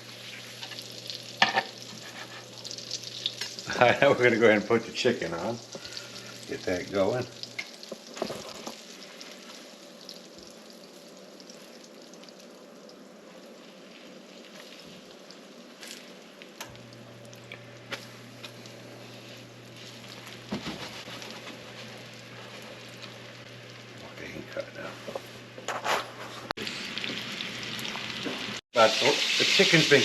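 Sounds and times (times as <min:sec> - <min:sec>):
chicken frying in a pan: 0:00.0 - 0:25.4, 0:26.6 - 0:30.0.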